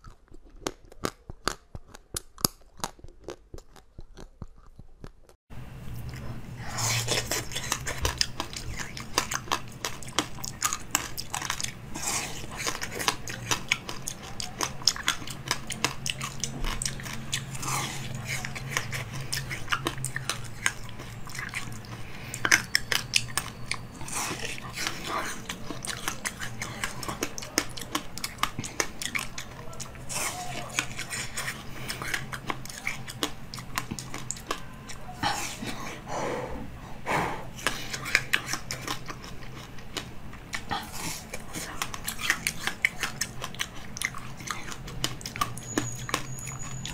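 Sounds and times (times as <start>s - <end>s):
ice being bitten and chewed: 0.0s - 5.4s, 6.0s - 35.1s, 37.6s - 46.9s.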